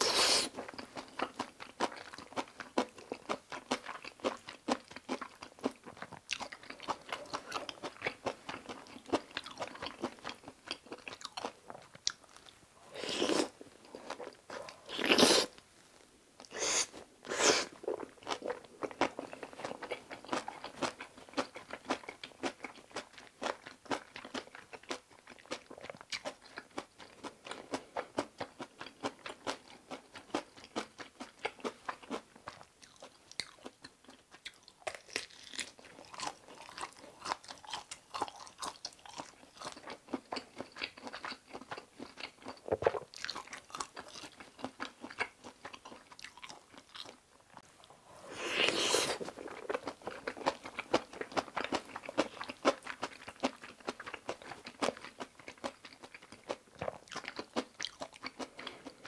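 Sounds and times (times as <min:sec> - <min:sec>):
close-miked chewing: 0:00.0 - 0:15.6, 0:16.4 - 0:59.0.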